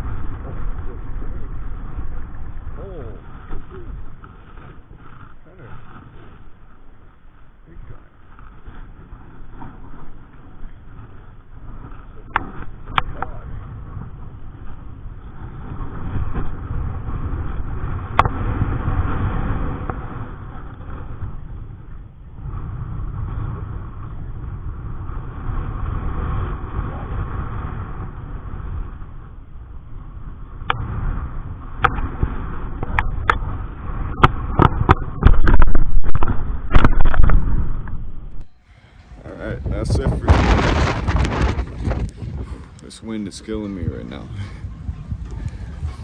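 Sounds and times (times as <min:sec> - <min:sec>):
strong wind buffeting microphone: 0:00.0 - 0:46.0.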